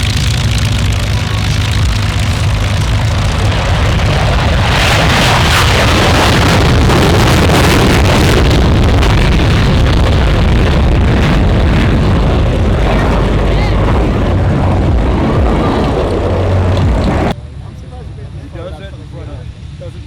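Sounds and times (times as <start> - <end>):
wind buffeting microphone: 0.0 - 17.4
light airplane engine and propeller: 0.0 - 20.0.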